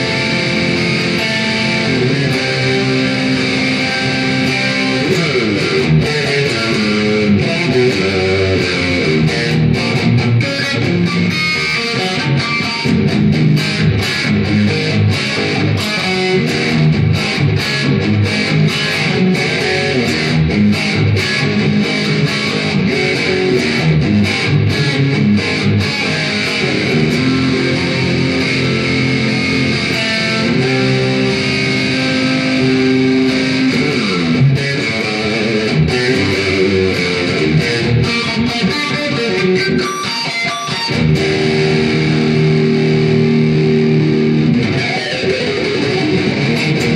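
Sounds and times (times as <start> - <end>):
electric guitar riffing: 0.0 - 46.9
guitar pitch dive: 0.0 - 46.9.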